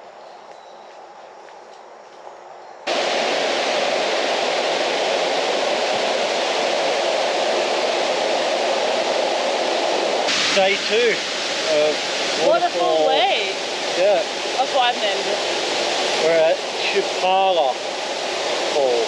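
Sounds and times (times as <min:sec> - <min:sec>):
rain hissing: 0:02.9 - 0:19.0
waterfall roaring: 0:02.9 - 0:19.0.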